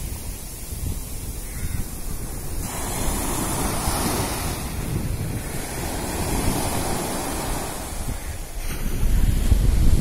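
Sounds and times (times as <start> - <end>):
sea waves breaking on sand: 0.0 - 10.0
wind rumble on microphone: 0.0 - 10.0.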